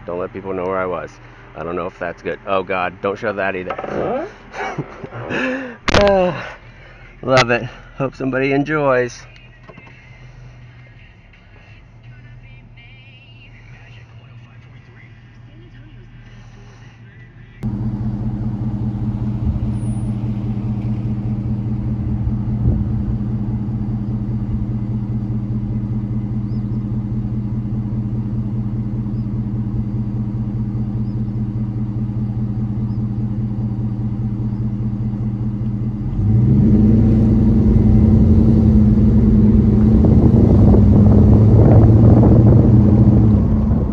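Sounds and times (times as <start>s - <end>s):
car engine idling and revving: 0.0s - 6.0s, 6.6s - 43.9s.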